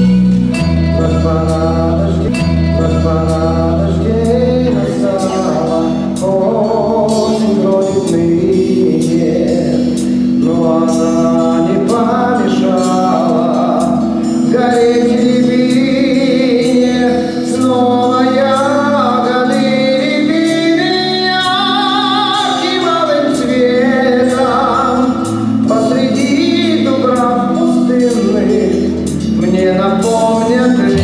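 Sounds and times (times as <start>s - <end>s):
person singing with vibrato: 0.0s - 31.0s
pop band accompaniment: 0.0s - 31.0s.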